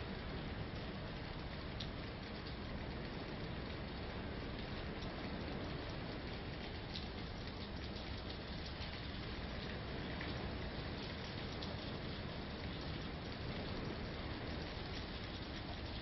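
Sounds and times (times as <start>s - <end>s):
rain and wind against a house: 0.0s - 16.0s.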